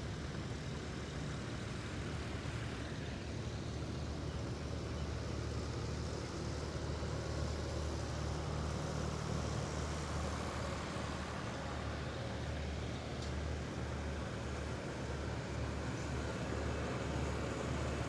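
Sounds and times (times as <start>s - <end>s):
tractor engines passing: 0.1s - 18.0s.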